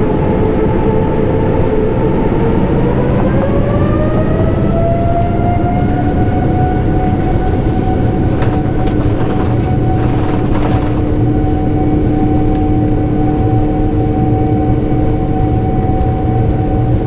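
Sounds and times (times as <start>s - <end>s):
jet engine rumble and whine: 0.0s - 17.0s.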